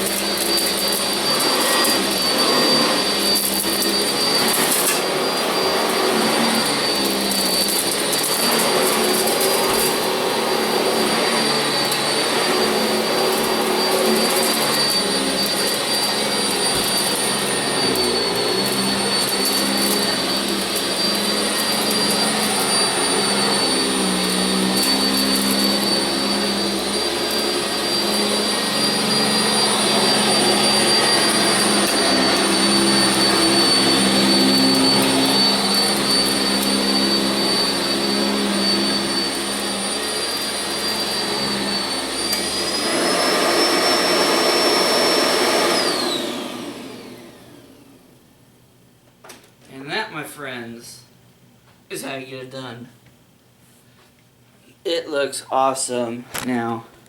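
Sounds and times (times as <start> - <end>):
vacuum cleaner running: 0.0 - 48.3.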